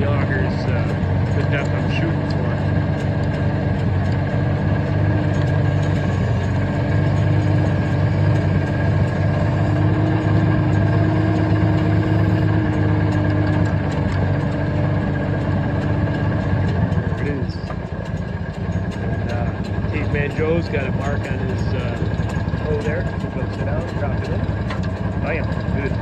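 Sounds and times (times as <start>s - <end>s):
auger engine running under load: 0.0s - 26.0s.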